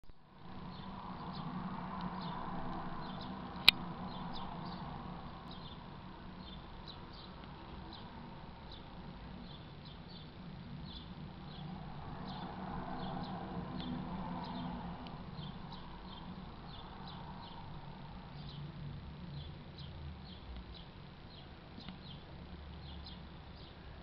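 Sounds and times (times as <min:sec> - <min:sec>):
garden birds chirping: 0:00.1 - 0:24.0
low hum: 0:00.1 - 0:24.0.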